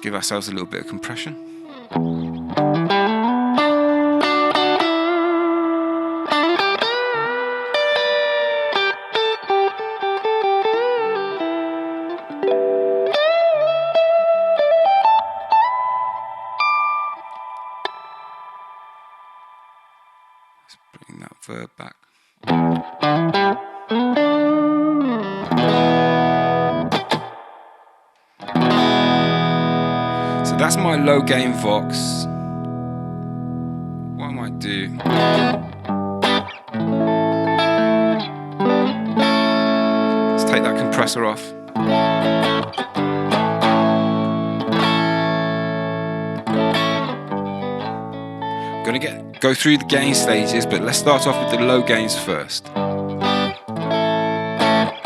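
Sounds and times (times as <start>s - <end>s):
electric guitar chords with reverb: 0.0s - 20.8s, 22.4s - 55.0s.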